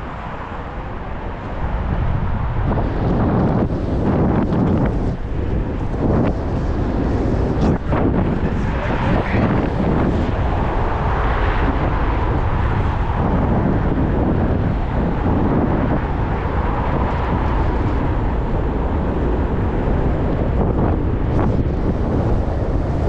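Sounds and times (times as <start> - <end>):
road and traffic rumble: 0.0 - 23.0
wind rushing on microphone: 0.0 - 23.0.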